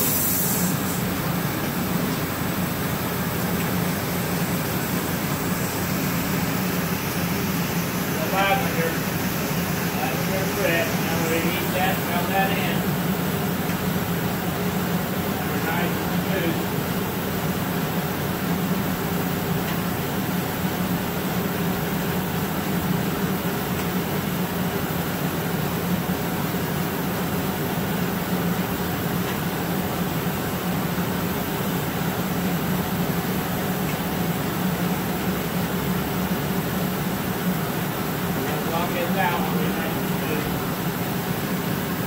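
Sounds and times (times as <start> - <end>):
gas furnace burner blower rushing: 0.0 - 42.0.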